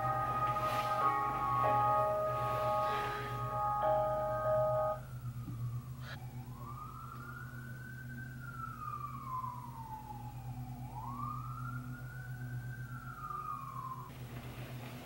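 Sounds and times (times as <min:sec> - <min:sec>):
siren wailing: 0:00.0 - 0:14.1
steady low hum: 0:00.0 - 0:15.0.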